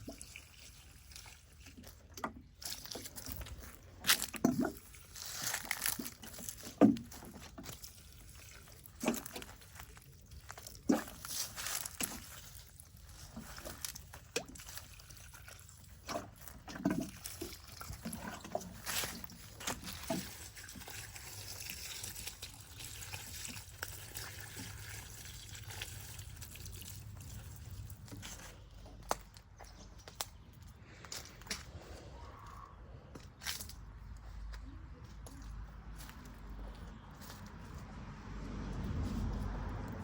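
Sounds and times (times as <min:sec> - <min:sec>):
water trickling and splashing: 0:00.0 - 0:34.4, 0:35.2 - 0:40.0.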